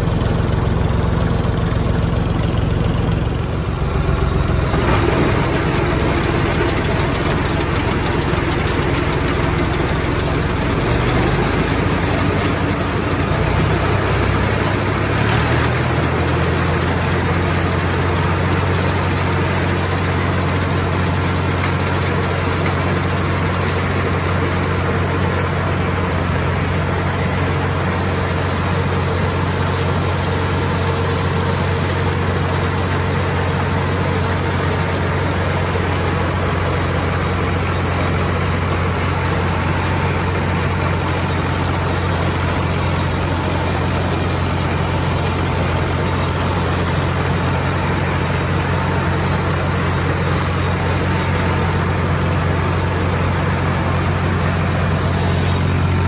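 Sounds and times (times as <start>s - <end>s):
mower whirring: 0.0s - 56.0s
tractor engine humming: 0.0s - 56.0s.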